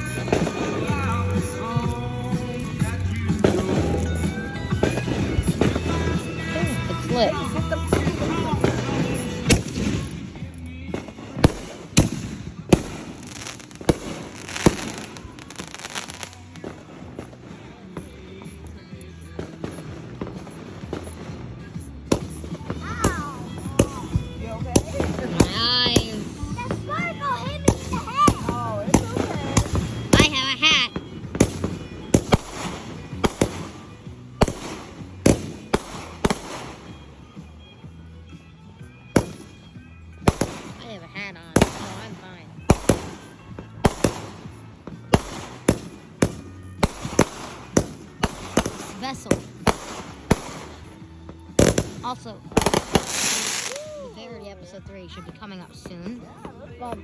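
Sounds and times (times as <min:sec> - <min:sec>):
firework bangs: 0:00.0 - 0:18.5, 0:19.3 - 0:37.5, 0:39.2 - 0:54.0
firework crackling: 0:00.0 - 0:37.6, 0:39.2 - 0:57.0.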